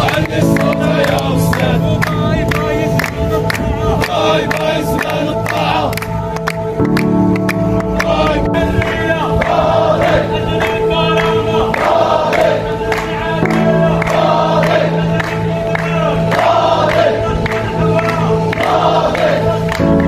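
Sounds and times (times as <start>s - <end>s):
crowd chanting in unison: 0.0s - 20.0s
rhythmic hand-clapping: 0.0s - 20.0s.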